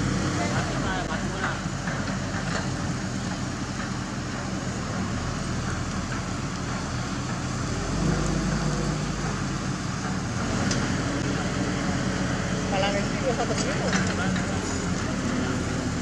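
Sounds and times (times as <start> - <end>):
crane diesel engine running: 0.0 - 16.0.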